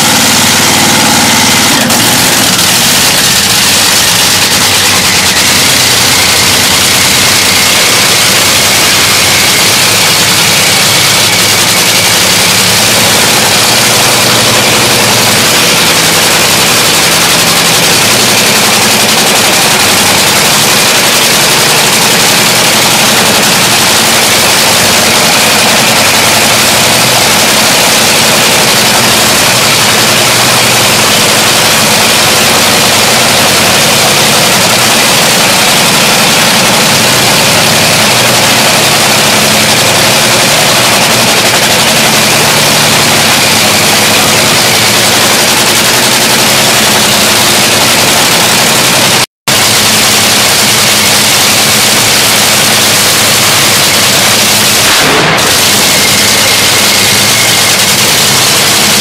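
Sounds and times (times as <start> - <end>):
dragster engine roaring: 0.0 - 59.0.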